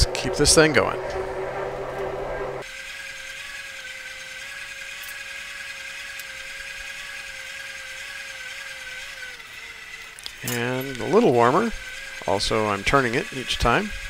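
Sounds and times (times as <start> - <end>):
forge air blower whirring: 0.0 - 14.0.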